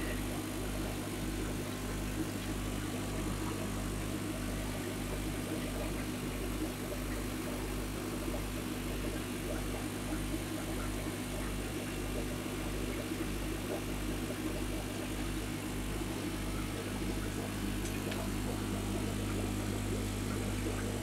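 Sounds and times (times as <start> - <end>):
electrical machine hum: 0.0 - 21.0.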